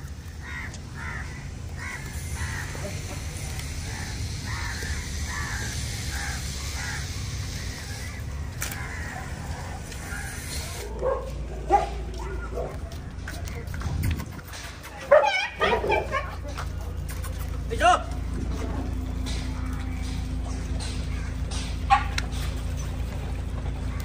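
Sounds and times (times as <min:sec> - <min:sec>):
steady low rumble: 0:00.0 - 0:15.1, 0:16.0 - 0:24.0.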